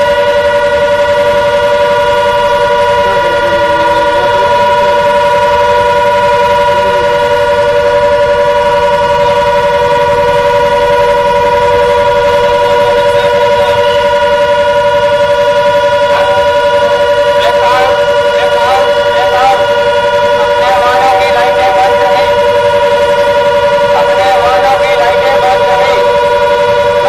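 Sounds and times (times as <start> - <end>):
warning siren steady tone: 0.0 - 27.0.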